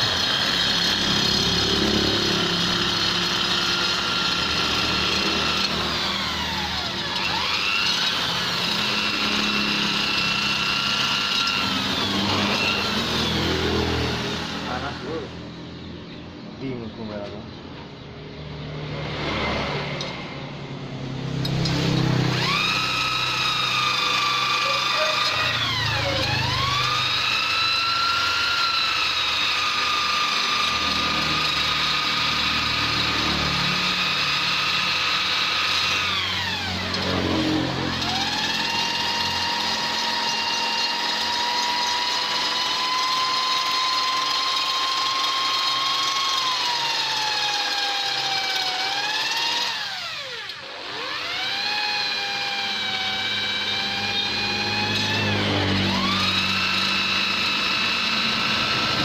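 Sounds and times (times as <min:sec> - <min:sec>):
die grinder whining: 0:00.0 - 0:15.9, 0:21.1 - 0:59.0.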